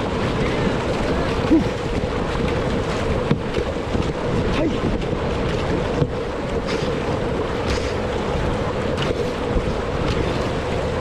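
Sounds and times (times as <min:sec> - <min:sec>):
paddle blades splashing in water: 0:00.0 - 0:11.0
water rushing along hull: 0:00.0 - 0:11.0
wind buffeting microphone: 0:00.0 - 0:11.0.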